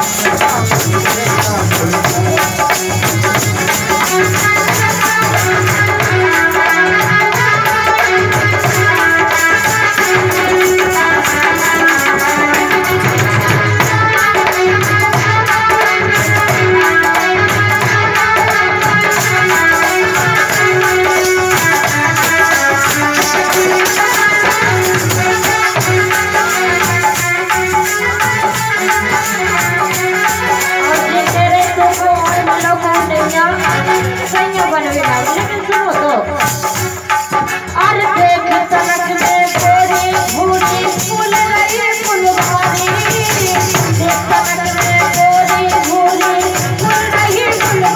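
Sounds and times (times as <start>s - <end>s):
hand drum rhythm: 0.0s - 47.9s
harmonium melody: 0.0s - 47.9s
shaker-like rattling beat: 0.0s - 47.9s
woman singing: 0.0s - 47.9s.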